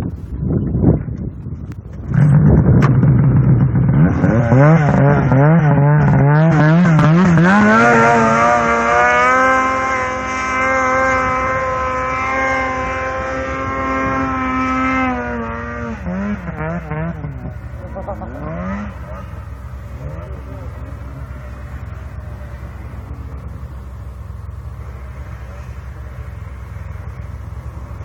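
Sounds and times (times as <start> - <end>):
snowmobile engine revving: 1.9 - 28.0.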